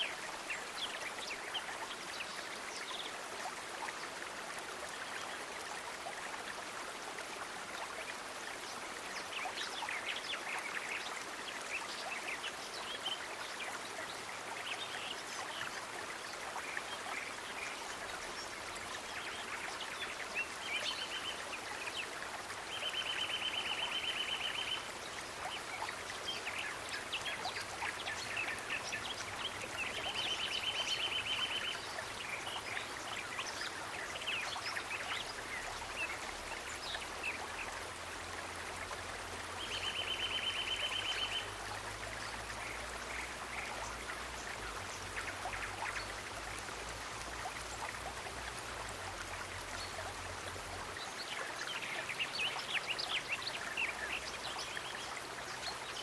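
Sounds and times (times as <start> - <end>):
running water: 0.0 - 56.0
small drips and ticks: 0.0 - 56.0.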